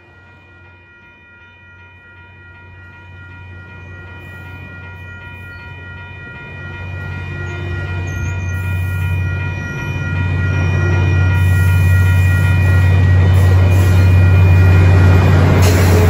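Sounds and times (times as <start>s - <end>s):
diesel locomotive engine rumble: 0.0s - 16.0s
steady high tone: 0.0s - 16.0s
train wheels on rails: 0.0s - 16.0s.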